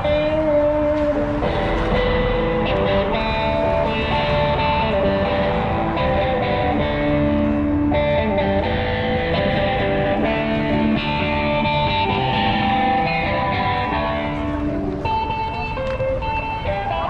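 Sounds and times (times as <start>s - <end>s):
guitar playing: 0.0s - 17.0s.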